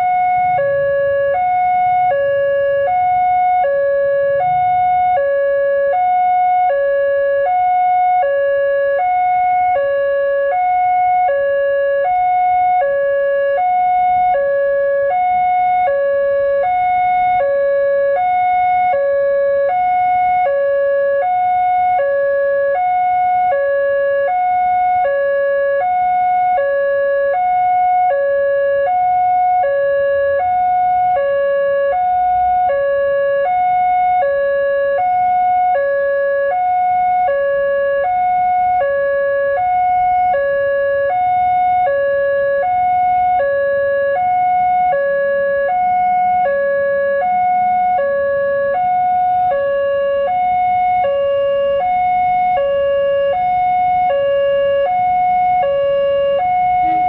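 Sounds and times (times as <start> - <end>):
level-crossing two-tone alarm: 0.0 - 57.0.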